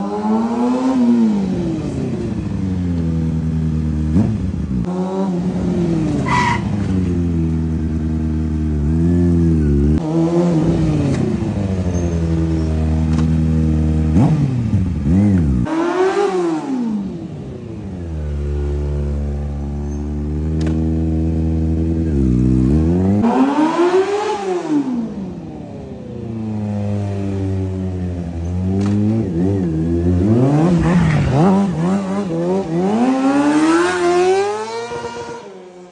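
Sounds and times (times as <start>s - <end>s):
engine revving and accelerating: 0.0s - 11.7s, 12.3s - 25.5s, 26.3s - 35.9s.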